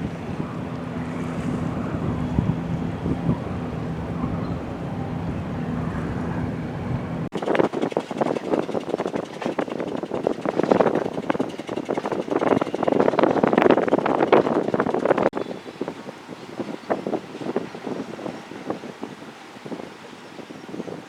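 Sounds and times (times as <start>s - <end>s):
boat engine droning: 0.0s - 21.0s
wind buffeting microphone: 0.0s - 21.0s.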